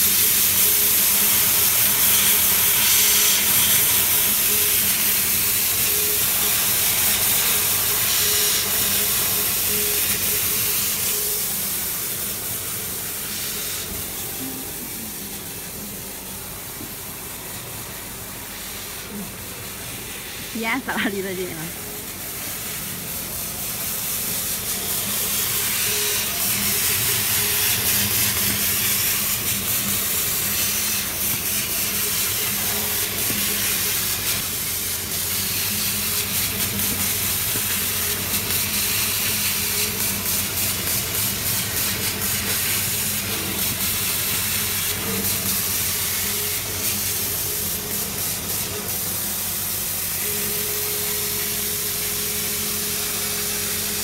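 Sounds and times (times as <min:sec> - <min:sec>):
laser cutter hissing and humming: 0:00.0 - 0:54.0.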